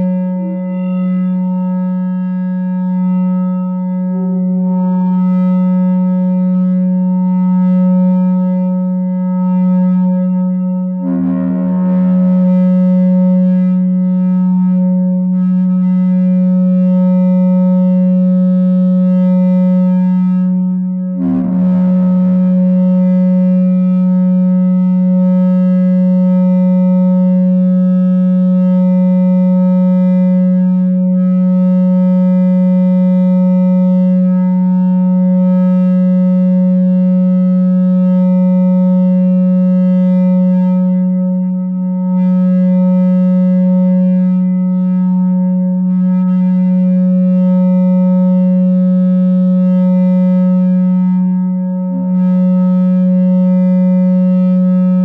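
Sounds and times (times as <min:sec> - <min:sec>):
mixer feedback drone: 0:00.0 - 0:55.0.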